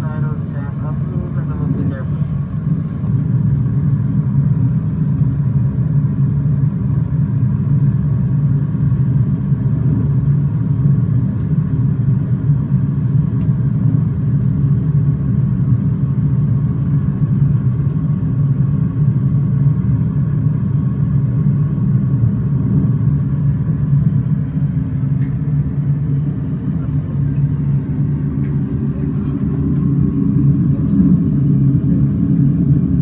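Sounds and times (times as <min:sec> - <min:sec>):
airliner engine and airflow rumble: 0:00.0 - 0:33.0.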